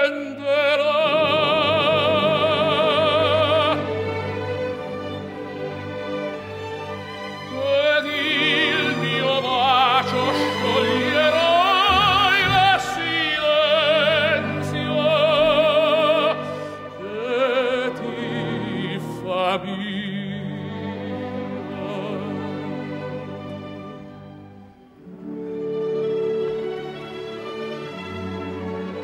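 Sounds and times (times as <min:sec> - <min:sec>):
operatic singing: 0:00.0 - 0:23.9
orchestral accompaniment: 0:00.0 - 0:29.0.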